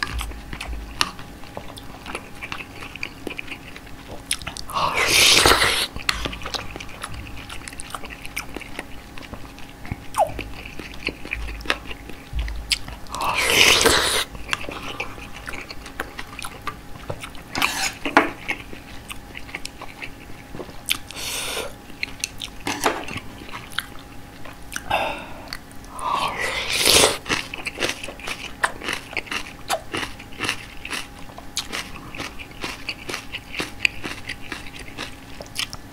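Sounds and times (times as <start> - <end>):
wet chewing and crunching: 0.0 - 35.9.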